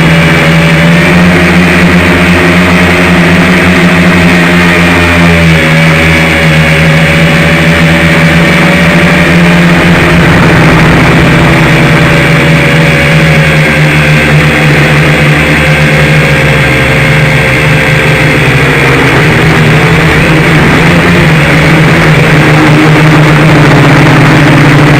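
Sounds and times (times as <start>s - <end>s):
quadcopter propellers buzzing: 0.0s - 24.9s.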